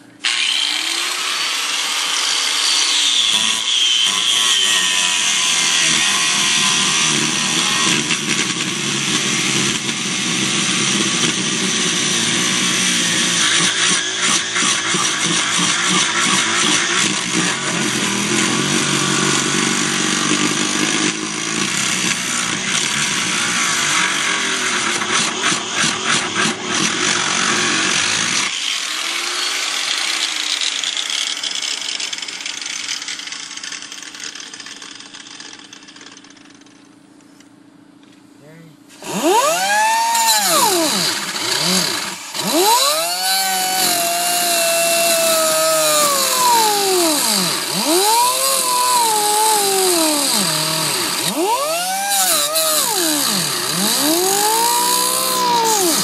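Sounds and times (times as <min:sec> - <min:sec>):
grinder cutting sheet metal: 0:00.0 - 0:36.6, 0:38.9 - 0:56.0.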